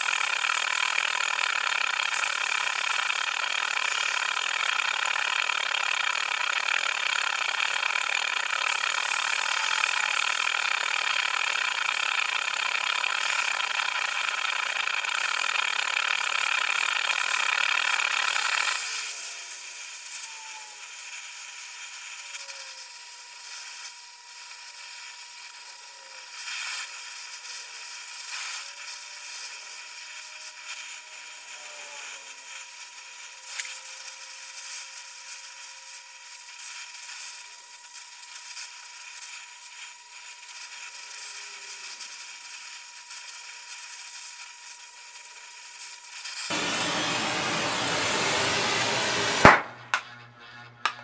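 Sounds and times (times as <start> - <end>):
welding torch flame hissing: 0.0 - 50.0.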